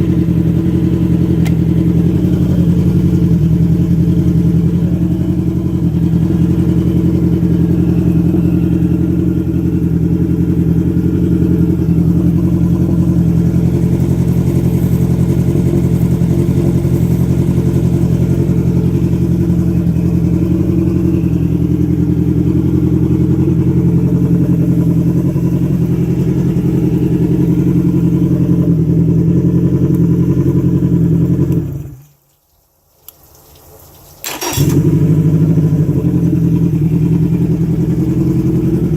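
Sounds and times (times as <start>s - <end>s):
outboard engine running: 0.0s - 32.0s, 34.2s - 38.9s.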